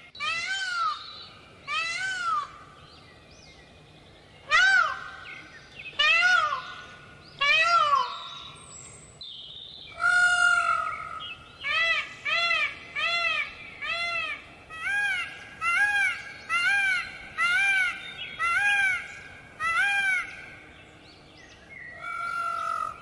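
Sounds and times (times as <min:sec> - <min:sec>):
peacock calling: 0:00.0 - 0:02.8, 0:04.4 - 0:08.6, 0:09.9 - 0:20.7, 0:21.9 - 0:23.0.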